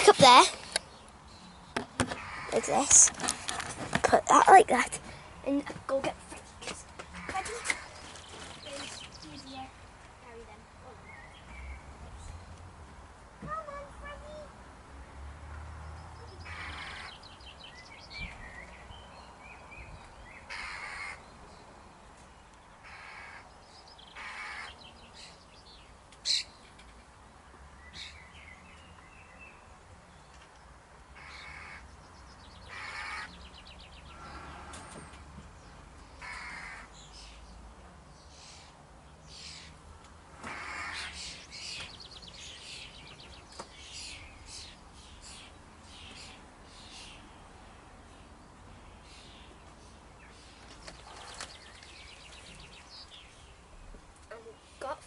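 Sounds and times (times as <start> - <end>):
wild birds calling: 0.0 - 6.0, 7.0 - 12.5, 15.9 - 22.0, 22.6 - 26.9, 31.0 - 55.0.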